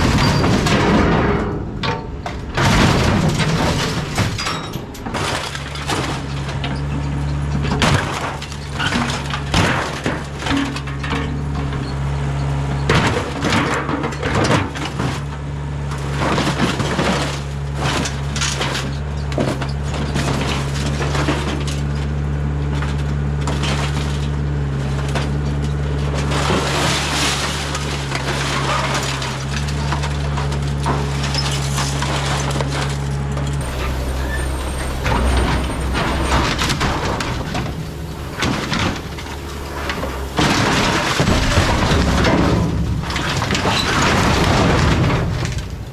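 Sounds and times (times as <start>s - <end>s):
scrap metal crashing: 0.0s - 12.0s, 12.8s - 45.9s
diesel excavator engine running: 0.0s - 45.9s.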